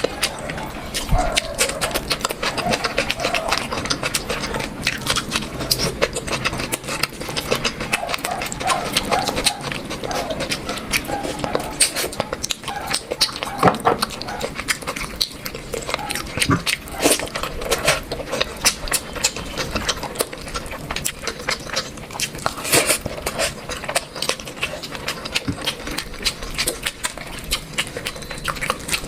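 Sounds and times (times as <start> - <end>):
wet chewing and lip-smacking: 0.0 - 29.0.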